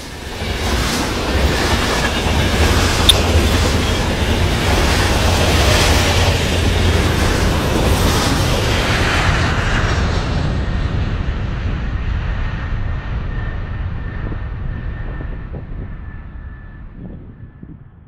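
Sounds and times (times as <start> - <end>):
airplane flying overhead: 0.0 - 18.0.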